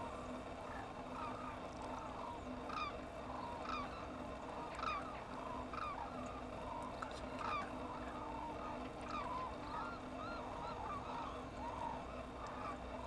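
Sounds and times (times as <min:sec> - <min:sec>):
chatter of many birds: 0:00.0 - 0:13.0
cranes calling loudly: 0:00.6 - 0:13.0.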